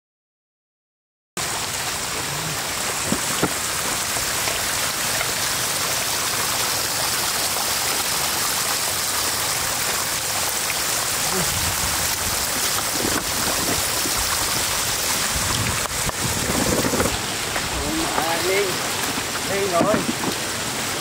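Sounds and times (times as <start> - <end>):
floodwater rushing over road: 1.4 - 21.0.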